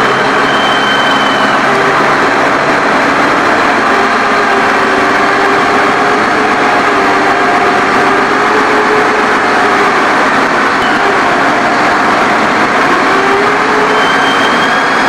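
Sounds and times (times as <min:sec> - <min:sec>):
machinery droning: 0:00.0 - 0:15.0.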